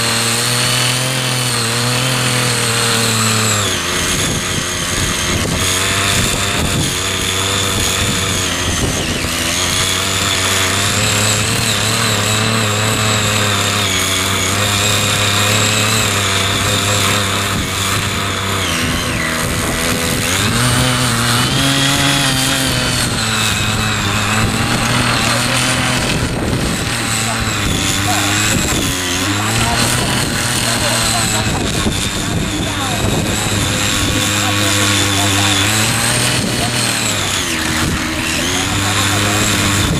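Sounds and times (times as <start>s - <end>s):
small tiller engine running: 0.0s - 39.9s.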